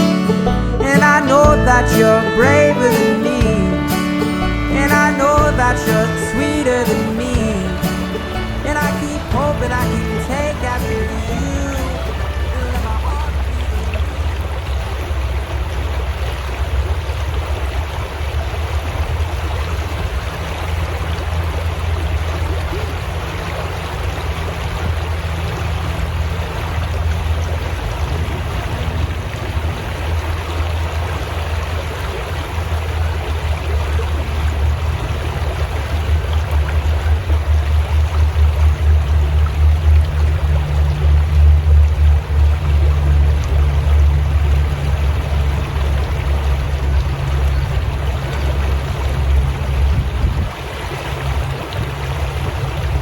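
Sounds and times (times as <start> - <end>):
low rumble: 0.0 - 53.0
stream water rushing: 0.0 - 53.0.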